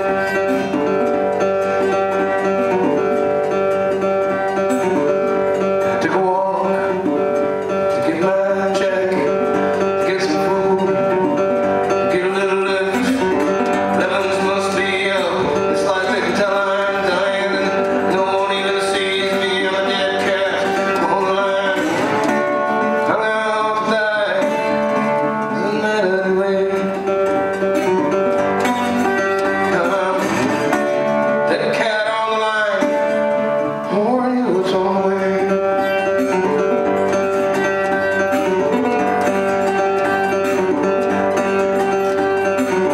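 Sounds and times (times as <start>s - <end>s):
acoustic guitar playing blues: 0.0s - 42.9s.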